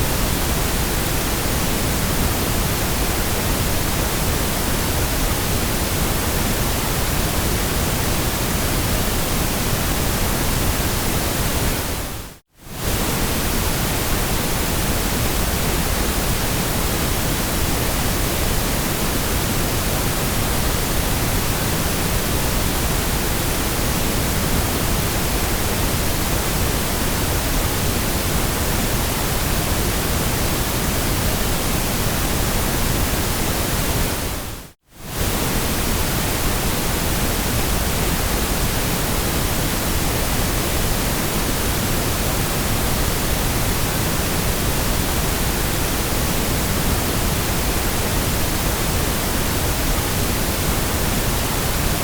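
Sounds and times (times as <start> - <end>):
low-weighted noise hiss: 0.0 - 52.0.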